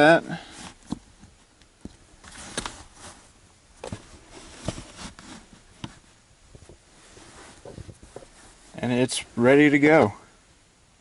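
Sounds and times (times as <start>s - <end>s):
faint rustling: 0.0s - 10.4s.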